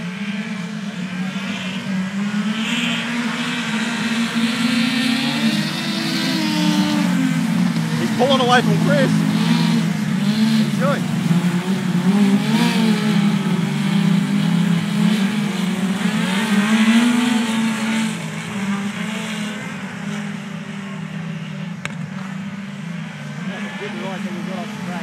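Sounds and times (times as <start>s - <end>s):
racing car engines: 0.0s - 25.0s.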